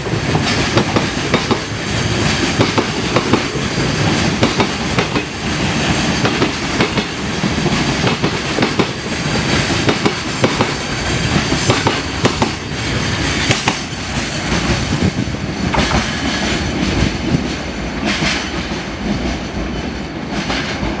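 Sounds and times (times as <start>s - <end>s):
train rumble: 0.0s - 21.0s
train wheels clattering over rail joints: 0.0s - 21.0s.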